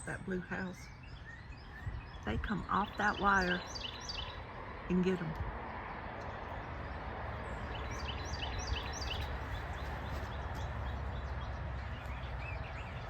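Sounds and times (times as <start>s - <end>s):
small songbird chirping: 0.0s - 5.1s, 5.7s - 13.0s.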